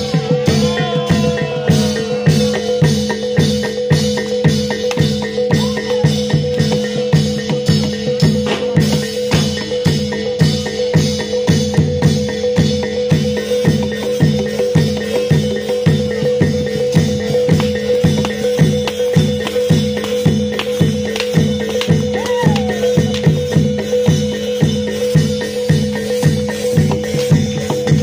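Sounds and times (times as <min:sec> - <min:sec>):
drum strokes: 0:00.0 - 0:28.0
rattling percussion: 0:00.0 - 0:28.0.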